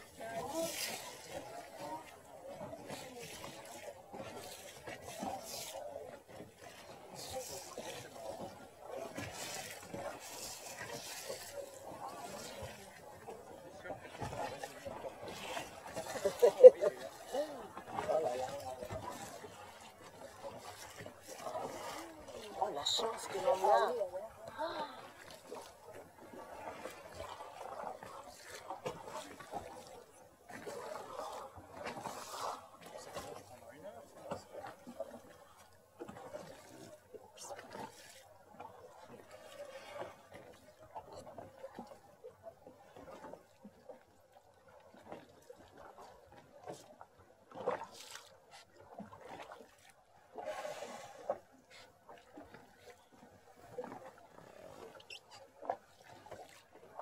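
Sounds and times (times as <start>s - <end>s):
water lapping and trickling: 0.0s - 57.0s.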